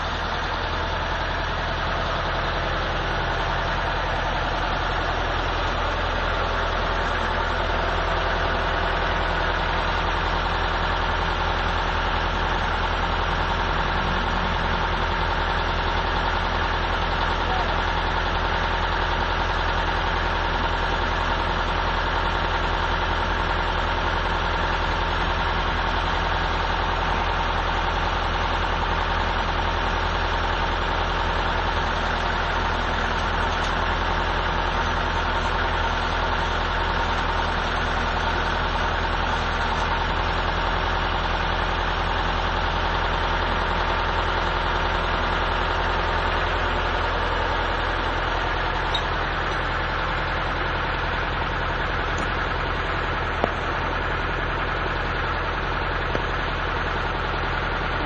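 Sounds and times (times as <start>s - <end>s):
machining low hum and drone: 0.0s - 21.6s, 22.3s - 58.0s.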